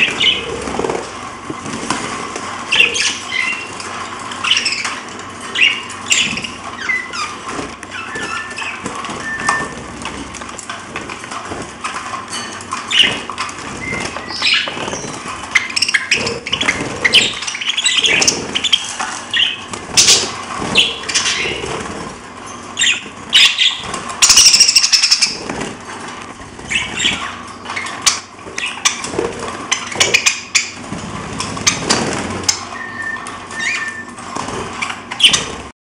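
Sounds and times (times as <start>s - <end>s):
parrots chirping and squawking: 0.0s - 35.7s
wings fluttering: 0.0s - 35.7s.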